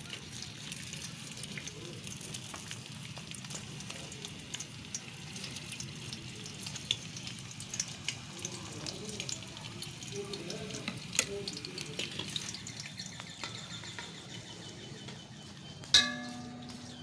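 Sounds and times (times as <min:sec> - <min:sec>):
oil crackling and popping: 0:00.0 - 0:17.0
onion sizzling in oil: 0:00.0 - 0:17.0.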